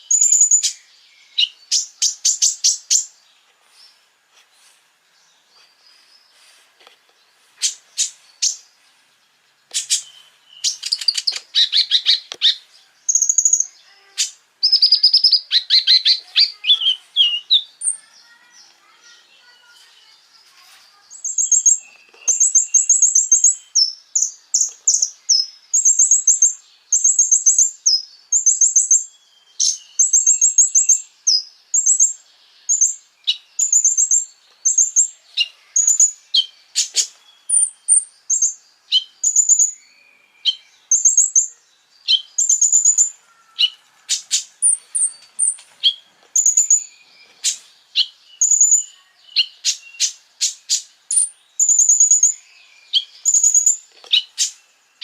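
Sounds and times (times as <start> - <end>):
bird singing high trills: 0.0 - 3.2, 9.8 - 55.0.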